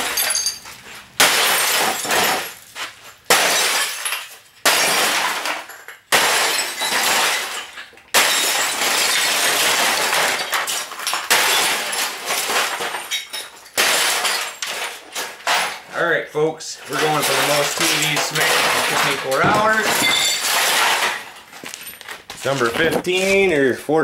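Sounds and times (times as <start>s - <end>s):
glass shattering: 0.0s - 15.9s, 16.9s - 22.2s.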